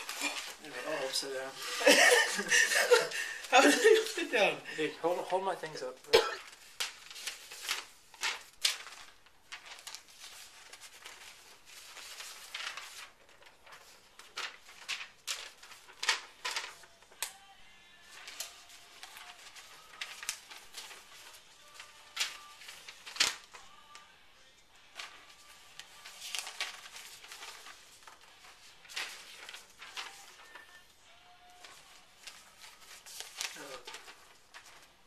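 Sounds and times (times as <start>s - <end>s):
paper rustling and crackling: 0.0s - 35.0s.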